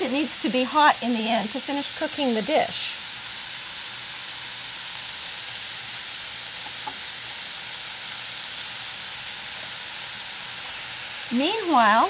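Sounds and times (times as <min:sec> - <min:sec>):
ham sizzling in a skillet: 0:00.0 - 0:12.0.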